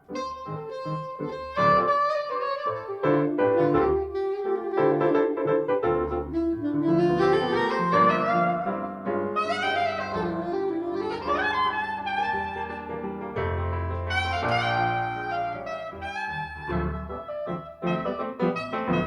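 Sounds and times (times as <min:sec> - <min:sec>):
piano chords: 0:00.0 - 0:19.0
soprano saxophone melody: 0:00.0 - 0:19.0.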